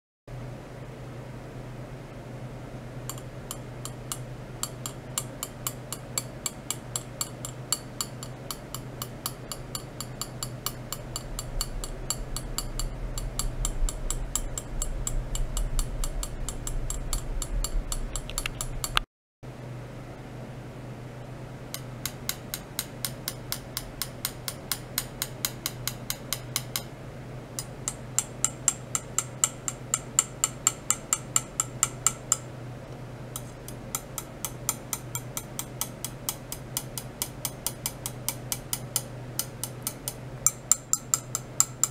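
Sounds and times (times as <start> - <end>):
low electrical hum: 0.3 - 41.9
sharp metallic ticks: 3.1 - 19.0, 21.8 - 26.9, 27.6 - 32.5, 33.4 - 41.9.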